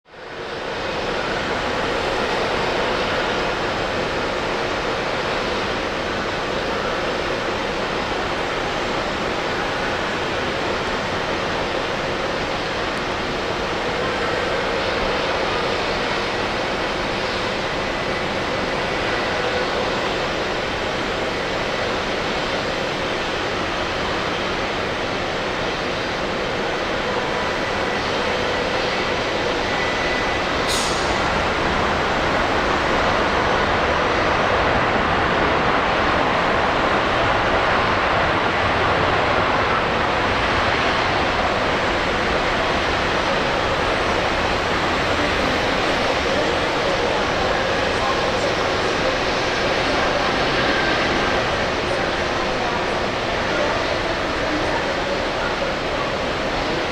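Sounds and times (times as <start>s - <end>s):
jet engines rumbling with whine: 0.1s - 56.9s.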